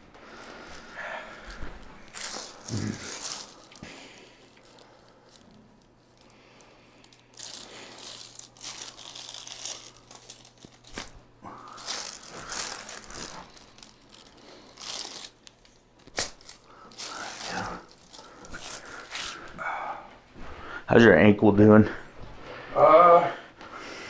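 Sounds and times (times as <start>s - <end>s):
rustling and crinkling: 0.0s - 19.6s.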